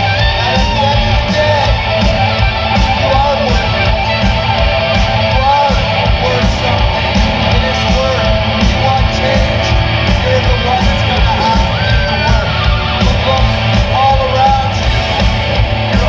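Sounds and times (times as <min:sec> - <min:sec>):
bass guitar: 0:00.0 - 0:16.0
drums: 0:00.0 - 0:16.0
electric guitar lead line: 0:00.0 - 0:16.0.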